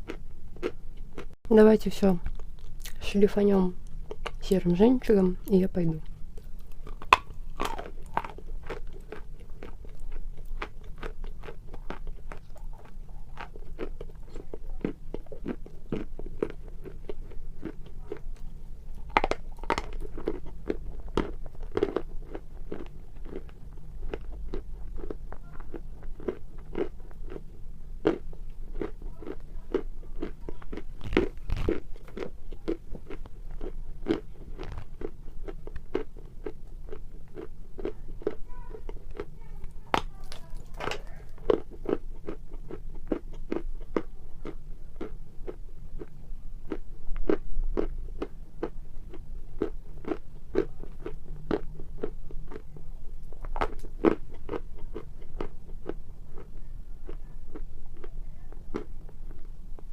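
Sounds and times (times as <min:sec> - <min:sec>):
crunchy chewing: 0:00.0 - 0:01.4, 0:02.2 - 0:03.0, 0:03.8 - 0:04.6, 0:05.5 - 0:59.9.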